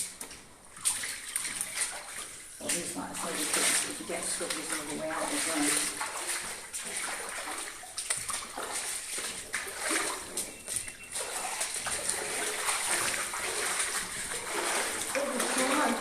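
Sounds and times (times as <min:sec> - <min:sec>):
footsteps splashing through puddles: 0:00.8 - 0:16.0.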